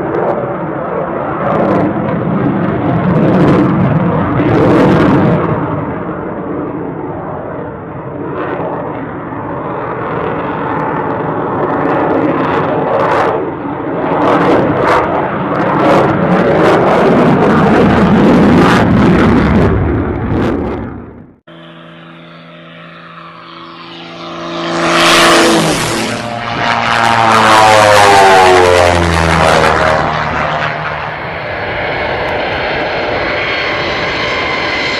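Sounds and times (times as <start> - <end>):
crackling jet roar: 0.0 - 34.9
propeller plane engine drone: 0.0 - 34.9.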